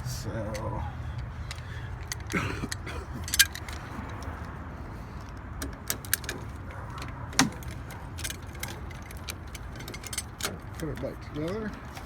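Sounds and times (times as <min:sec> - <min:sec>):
metallic clicks of lock parts: 0:00.5 - 0:04.6, 0:05.2 - 0:12.0.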